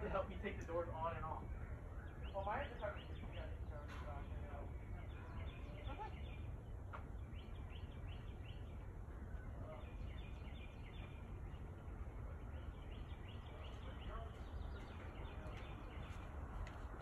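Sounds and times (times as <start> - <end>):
faint low outdoor rumble: 0.0 - 17.0
small birds chirping: 0.0 - 17.0.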